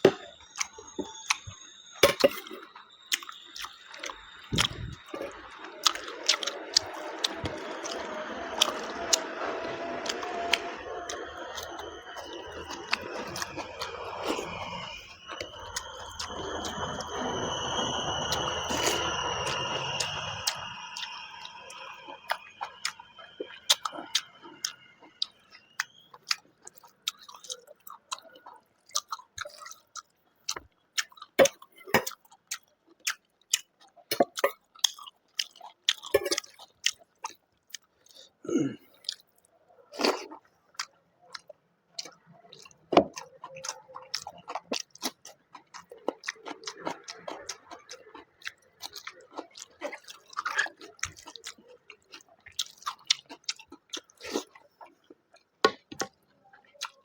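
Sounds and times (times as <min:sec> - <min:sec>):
food crunching: 0:00.0 - 0:57.0
wet chewing and lip smacks: 0:02.6 - 0:17.3, 0:18.3 - 0:38.3, 0:39.0 - 0:57.0.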